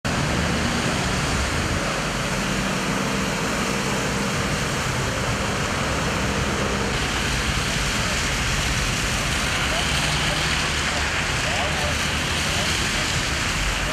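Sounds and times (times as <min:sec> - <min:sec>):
water splashing under vehicles: 0:00.0 - 0:13.9
low engine hum: 0:00.1 - 0:13.9.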